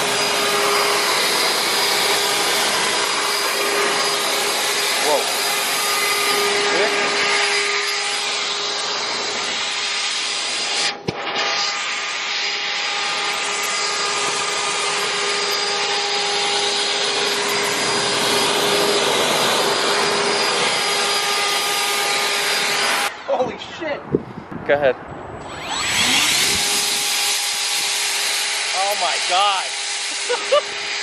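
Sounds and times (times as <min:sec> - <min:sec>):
leaf blower air rush and whine: 0:00.0 - 0:31.0.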